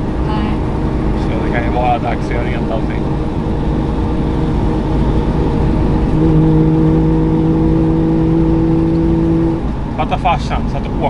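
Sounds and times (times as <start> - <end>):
car engine cruising: 0.0 - 11.0
road noise: 0.0 - 11.0
steady droning tone: 0.0 - 11.0.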